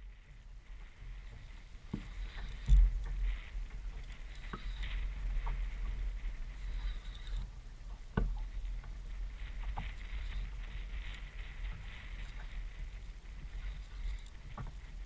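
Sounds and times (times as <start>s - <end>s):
paddle splashing water: 0.0s - 15.0s
wind rumbling on microphone: 0.0s - 15.0s.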